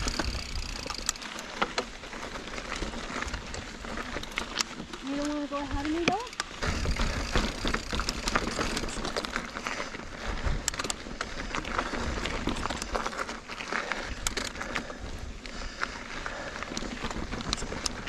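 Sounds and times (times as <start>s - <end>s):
bike clicks and rattles: 0.0s - 18.0s
tyre and trail noise: 0.0s - 18.0s.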